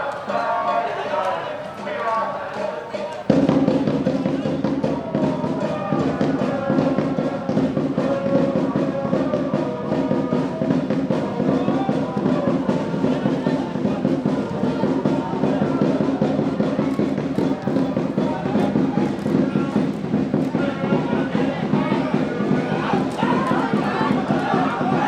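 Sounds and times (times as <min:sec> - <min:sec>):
drums beating fast: 0:03.0 - 0:25.0.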